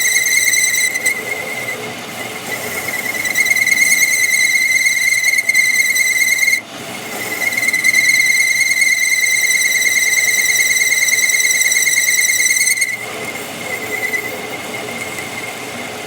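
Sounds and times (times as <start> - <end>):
high-pitched metallic squeal: 0.0 - 16.0.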